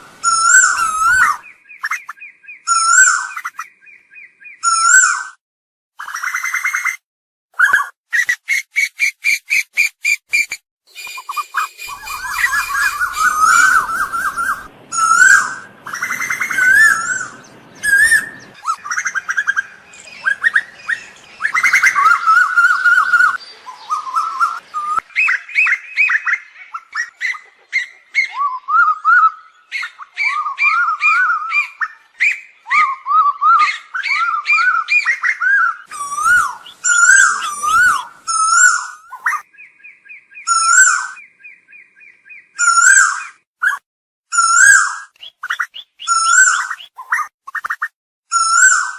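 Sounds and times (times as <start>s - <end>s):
koels calling whistled notes: 0.0s - 5.3s, 7.6s - 48.9s.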